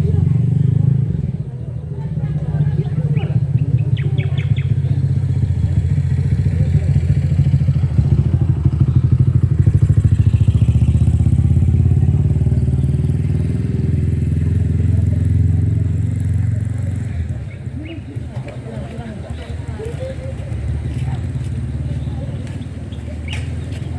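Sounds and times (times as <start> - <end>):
small engine pulsing rumble: 0.0 - 23.9.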